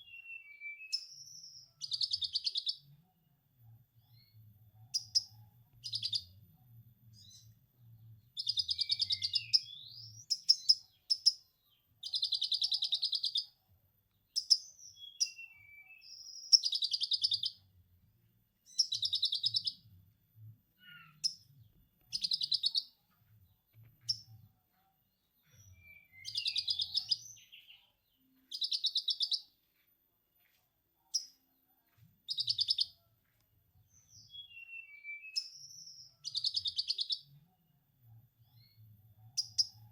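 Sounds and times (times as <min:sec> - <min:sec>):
bird chirps: 0:00.0 - 0:03.0, 0:04.0 - 0:13.6, 0:14.3 - 0:17.7, 0:18.6 - 0:19.9, 0:20.8 - 0:24.5, 0:25.1 - 0:29.8, 0:30.4 - 0:31.4, 0:32.2 - 0:33.1, 0:33.8 - 0:37.5, 0:38.4 - 0:39.9.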